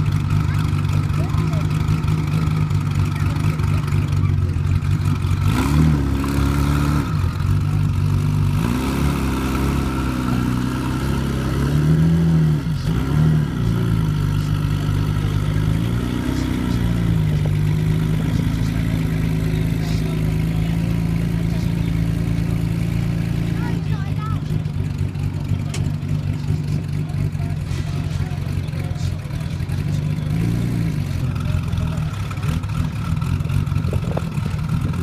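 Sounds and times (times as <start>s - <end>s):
car engine idling: 0.0s - 35.0s
engine throttle blips: 0.0s - 35.0s.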